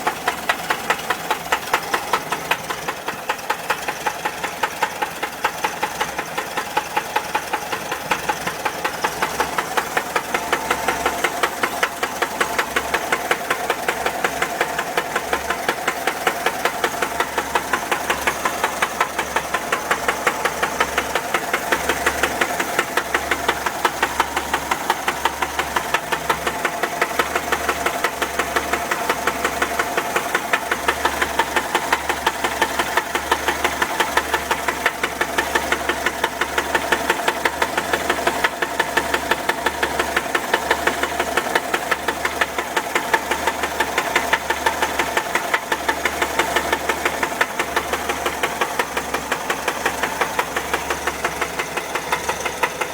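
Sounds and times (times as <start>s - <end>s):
air-cooled engine idling: 0.0s - 52.9s
regular engine knock: 0.0s - 52.9s.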